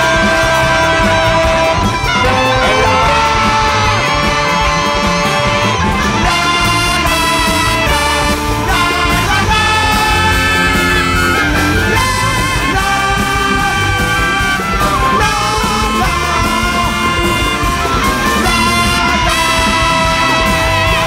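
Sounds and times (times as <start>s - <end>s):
big jazz band playing: 0.0s - 21.0s.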